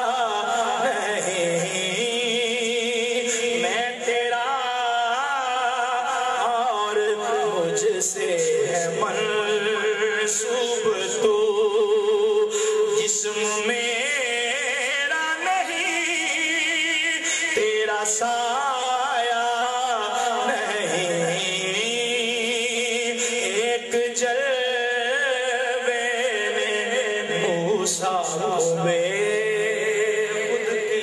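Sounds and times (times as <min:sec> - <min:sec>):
man singing into a microphone: 0:00.0 - 0:31.0.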